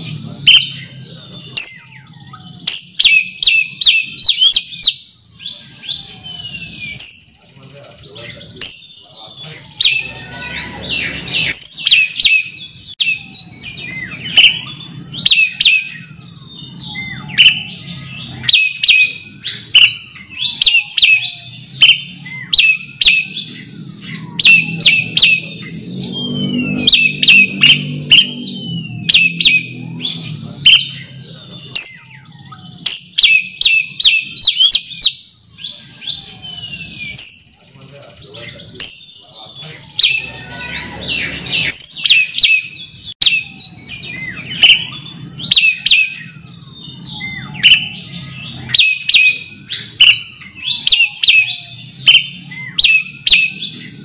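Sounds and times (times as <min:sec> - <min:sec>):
bird singing whistled notes: 0:00.0 - 0:54.0.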